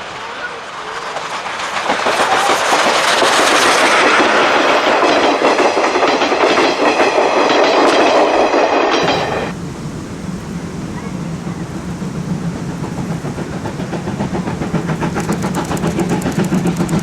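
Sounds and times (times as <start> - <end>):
train wheels clattering over rail joints: 0.5 - 9.6, 11.8 - 17.0.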